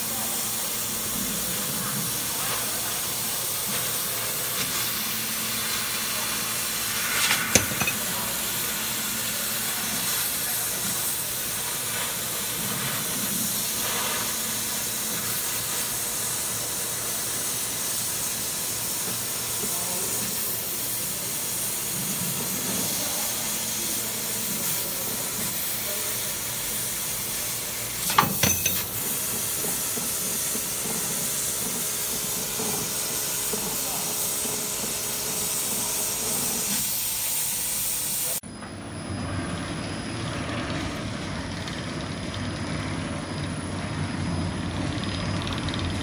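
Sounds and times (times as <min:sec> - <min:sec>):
laser cutter hiss: 0:00.0 - 0:38.5.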